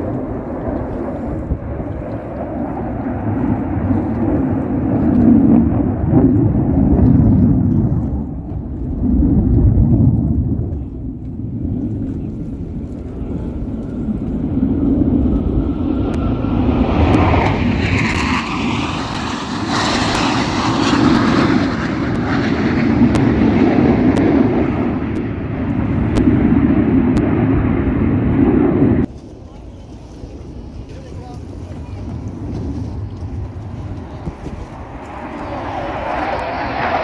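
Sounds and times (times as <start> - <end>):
jet aircraft roar: 0.0 - 37.0
steady low rumble: 0.0 - 37.0.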